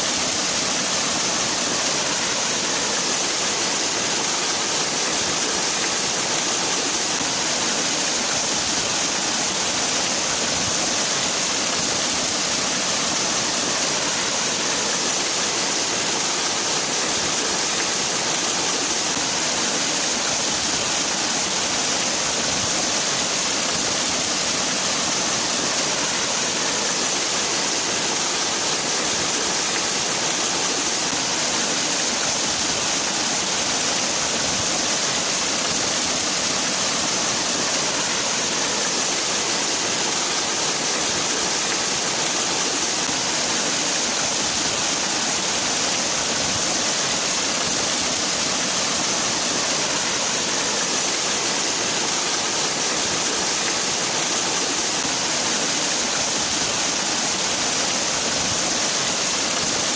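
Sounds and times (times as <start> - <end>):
waterfall splashing: 0.0 - 59.9.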